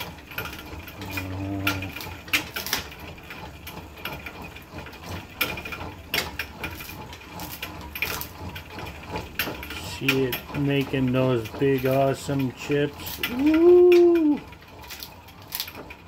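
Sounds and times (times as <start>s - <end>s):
lathe mechanism clattering: 0.0s - 16.0s.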